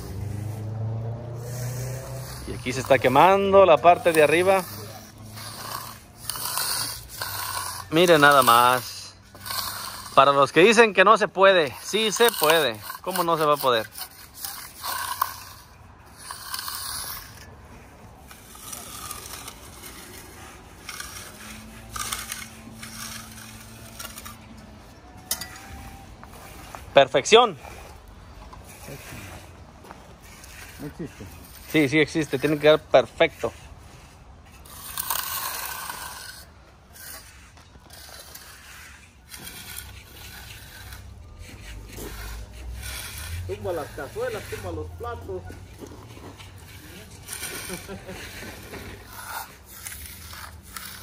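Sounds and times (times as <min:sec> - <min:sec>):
trowel scraping concrete: 0:00.0 - 0:51.0.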